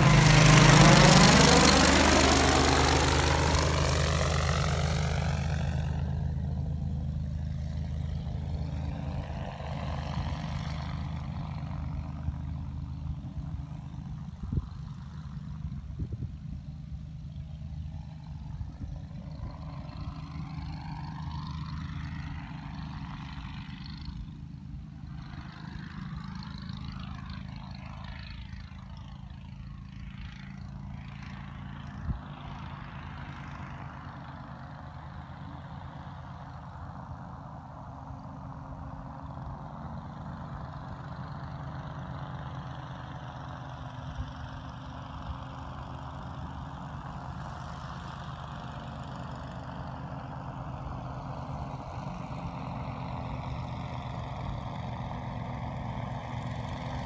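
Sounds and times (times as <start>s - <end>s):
engine and propeller droning: 0.0s - 57.0s.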